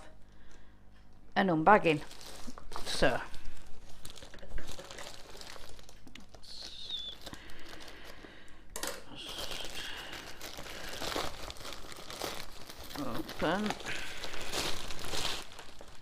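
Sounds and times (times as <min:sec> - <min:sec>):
packaging crinkling and tearing: 0:01.9 - 0:08.3, 0:09.2 - 0:16.0.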